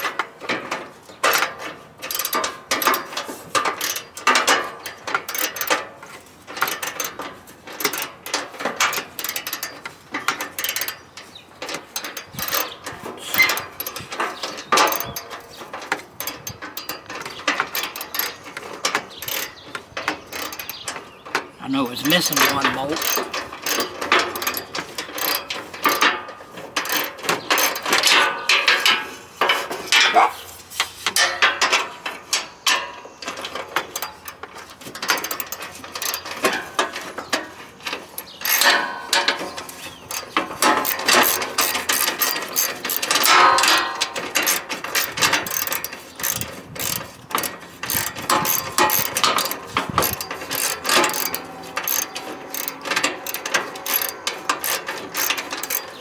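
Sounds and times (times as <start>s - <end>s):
ratchet wrench clicking: 1.3s - 5.9s, 6.5s - 11.0s, 11.6s - 21.0s, 21.7s - 26.2s, 26.8s - 28.3s, 33.3s - 37.1s, 38.0s - 56.0s.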